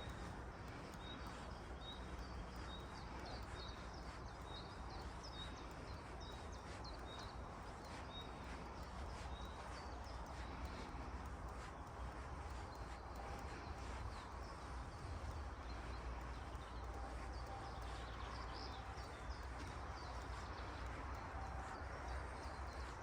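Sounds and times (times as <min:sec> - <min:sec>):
forest ambience hiss: 0:00.0 - 0:23.0
songbird high chirp: 0:00.0 - 0:23.0.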